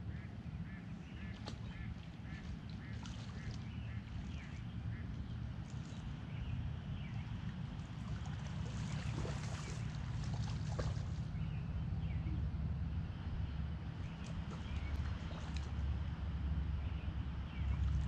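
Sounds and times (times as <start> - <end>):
water splashing and sloshing: 0.0 - 12.0, 12.6 - 18.0
steady low rumble: 0.0 - 18.0.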